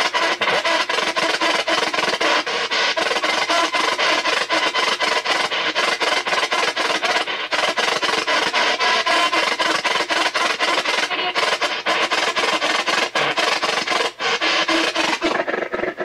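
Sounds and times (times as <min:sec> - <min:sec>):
chopped radio static: 0:00.0 - 0:16.0.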